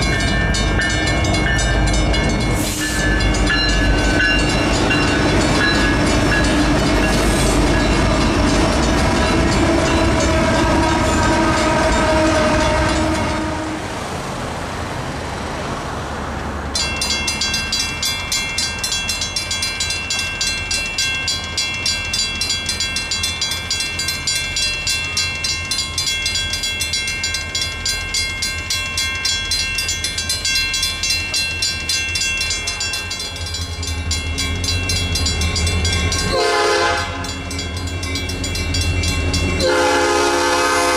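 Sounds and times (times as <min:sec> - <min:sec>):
railroad crossing bell ringing: 0:00.0 - 0:13.8, 0:16.6 - 0:40.9
train multi-note tone: 0:00.0 - 0:14.3, 0:16.6 - 0:40.9
freight train rumbling past: 0:00.0 - 0:40.9.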